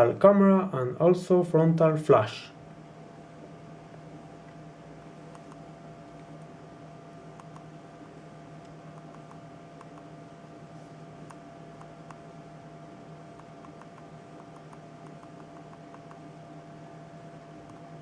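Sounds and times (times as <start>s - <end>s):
faint steady hum and hiss: 0.0s - 18.0s.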